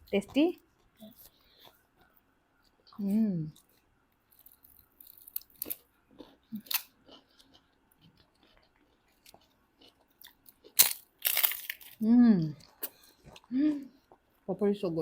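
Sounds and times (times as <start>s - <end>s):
person chewing: 0.0s - 14.5s.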